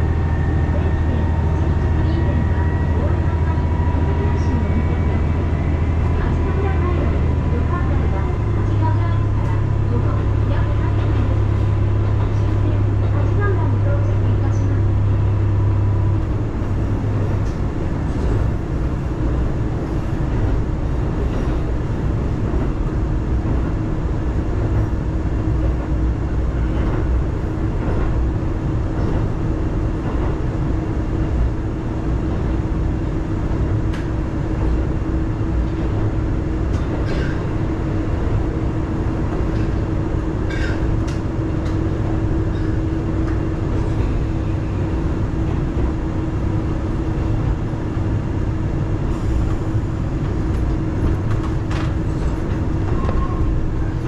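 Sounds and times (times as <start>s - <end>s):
deep drone: 0.0s - 54.0s
railcar rumbling: 0.0s - 54.0s.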